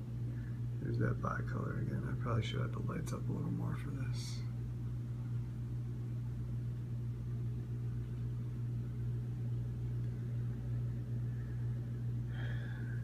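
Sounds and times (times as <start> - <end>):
aquarium equipment electrical hum: 0.0 - 13.0.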